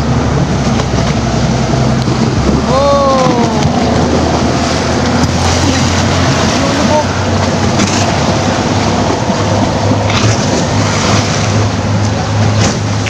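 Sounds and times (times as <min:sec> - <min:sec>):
low engine hum: 0:00.0 - 0:13.0
waves washing against riverbank: 0:00.0 - 0:13.0.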